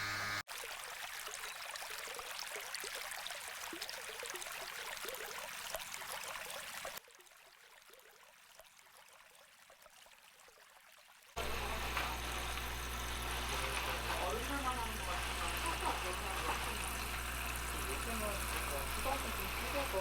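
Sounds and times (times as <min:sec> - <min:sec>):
water trickling and bubbling: 0:00.5 - 0:20.0.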